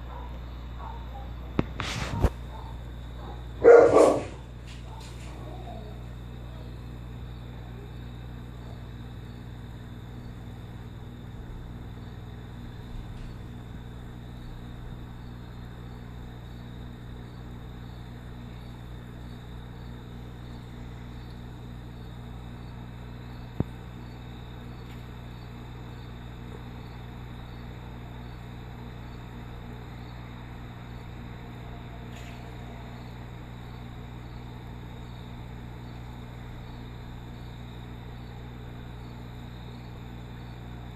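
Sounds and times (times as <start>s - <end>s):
aquarium filter humming: 0.0s - 40.9s
faint high whine ticking: 2.4s - 40.9s.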